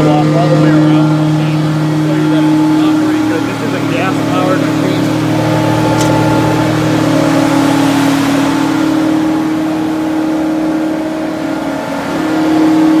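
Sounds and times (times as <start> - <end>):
wood chipper engine running: 0.0 - 12.8.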